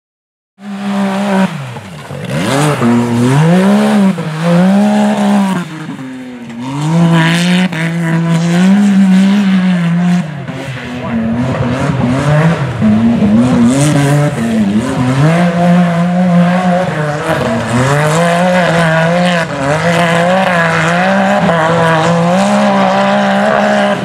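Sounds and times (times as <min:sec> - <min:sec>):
buggy engine revving hard: 0:00.6 - 0:24.0.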